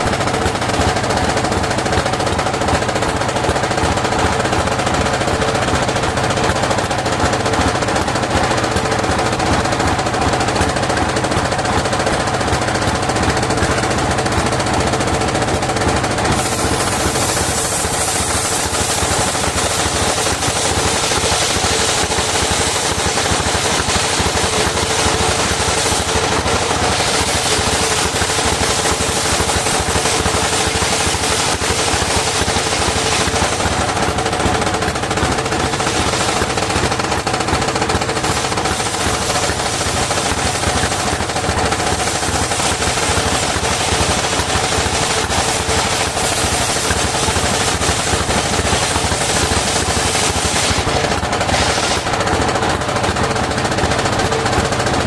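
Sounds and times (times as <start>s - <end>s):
sawmill engine running: 0.0s - 55.0s
spinning blade hum: 0.0s - 55.0s.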